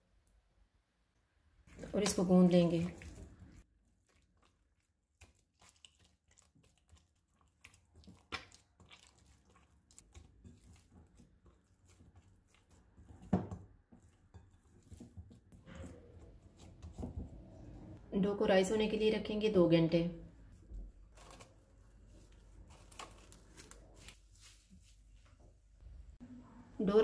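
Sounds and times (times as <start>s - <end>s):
dough kneaded by hand squelching: 1.6s - 18.0s, 20.3s - 25.8s.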